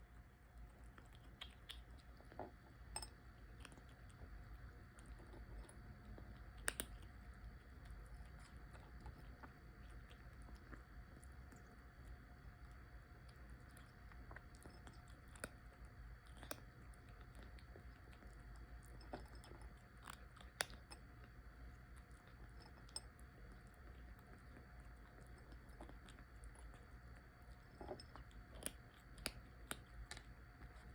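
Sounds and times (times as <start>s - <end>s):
kitten chewing food: 0.0s - 30.9s
low steady hum: 0.0s - 30.9s.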